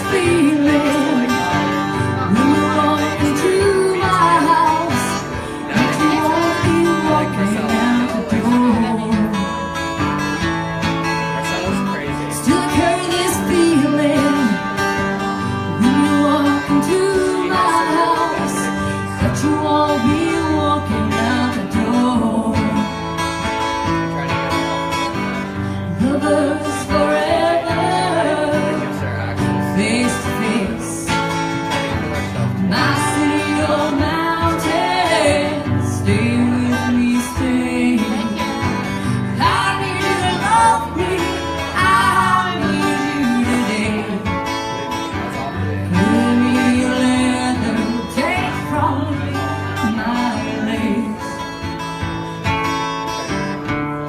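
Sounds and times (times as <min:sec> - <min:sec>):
woman singing: 0:00.0 - 0:09.7, 0:12.3 - 0:23.2, 0:25.8 - 0:31.4, 0:32.6 - 0:44.6, 0:45.7 - 0:51.8
acoustic guitar strumming: 0:00.0 - 0:54.0.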